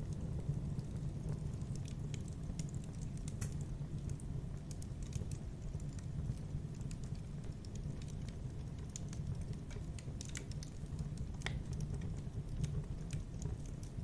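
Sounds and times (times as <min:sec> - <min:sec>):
fire crackling and popping: 0:00.0 - 0:14.0
low fire rumble: 0:00.0 - 0:14.0.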